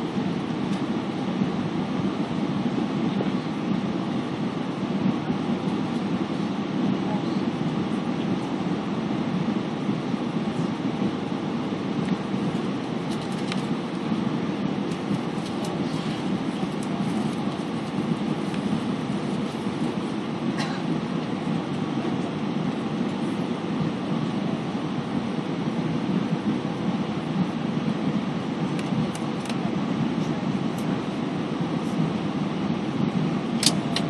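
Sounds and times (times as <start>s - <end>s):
airplane cabin engine rush: 0.0s - 34.0s.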